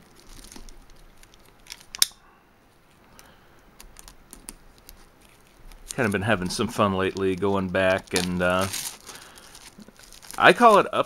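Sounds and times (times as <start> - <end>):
plastic shrink wrap crinkling: 0.0 - 2.0, 2.9 - 11.0
plastic wrap snapping: 0.0 - 2.2, 3.8 - 11.0.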